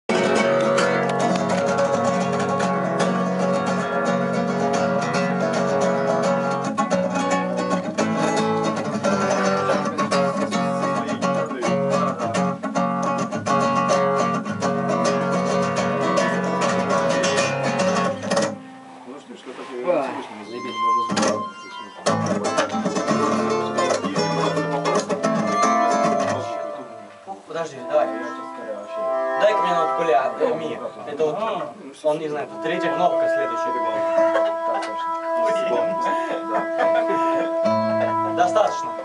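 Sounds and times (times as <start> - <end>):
plucked string music: 0.0 - 39.0.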